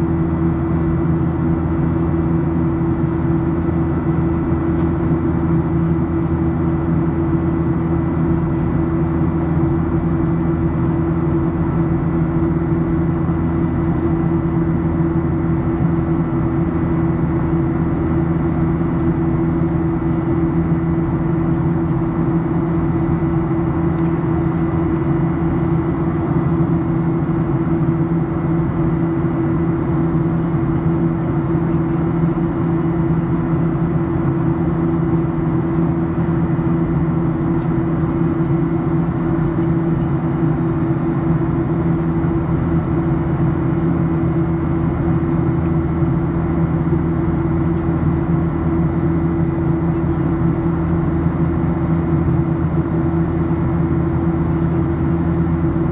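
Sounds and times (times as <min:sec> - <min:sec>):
jet engines humming: 0:00.0 - 0:55.9.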